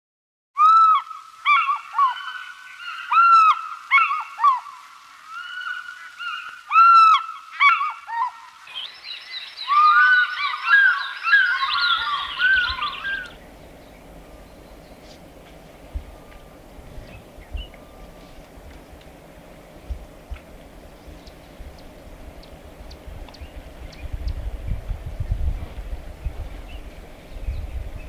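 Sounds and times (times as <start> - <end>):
birds calling: 0.6 - 24.8, 25.8 - 28.0
dense bird chorus: 1.4 - 24.6, 26.2 - 28.0.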